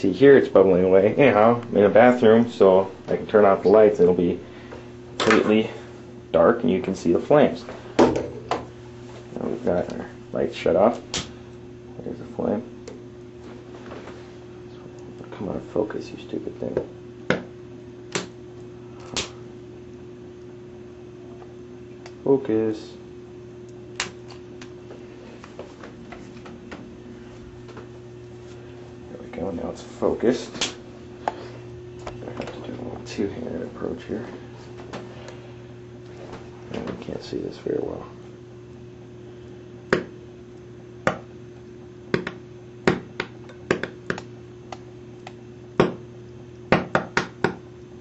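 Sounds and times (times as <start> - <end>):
low hum: 0.0 - 46.6.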